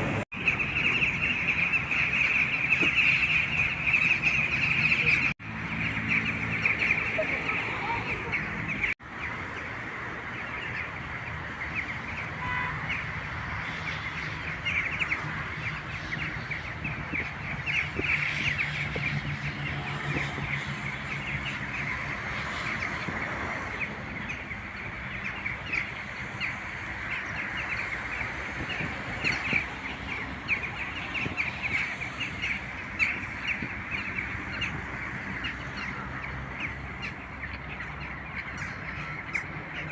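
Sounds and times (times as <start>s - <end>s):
flock of birds calling: 0.0s - 39.9s.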